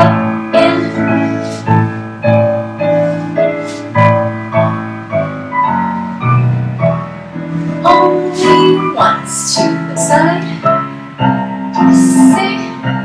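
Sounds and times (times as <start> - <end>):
solo piano chords: 0.0 - 13.0.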